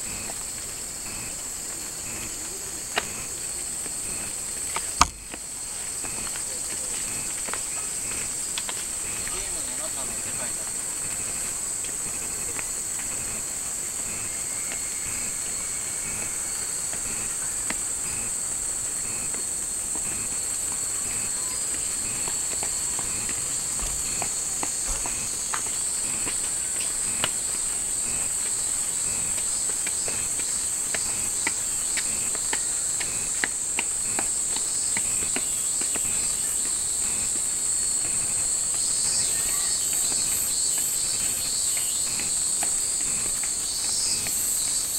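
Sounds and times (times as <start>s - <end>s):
cicadas chorus: 0.0s - 44.9s.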